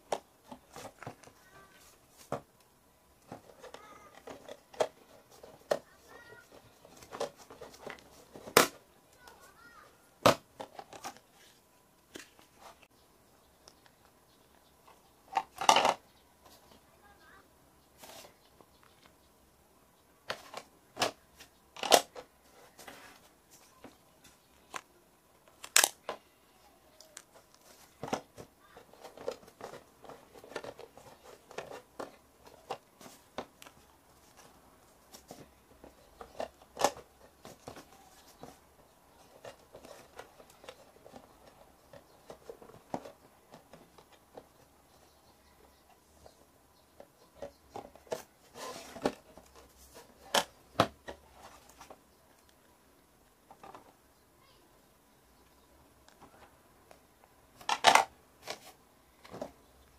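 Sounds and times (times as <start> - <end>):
soft handling noise: 0.0 - 19.3, 20.2 - 52.8, 53.4 - 54.1, 55.4 - 59.9.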